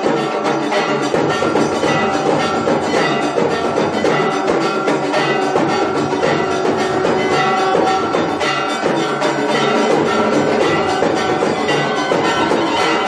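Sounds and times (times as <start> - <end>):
bells and percussion: 0.0 - 13.0.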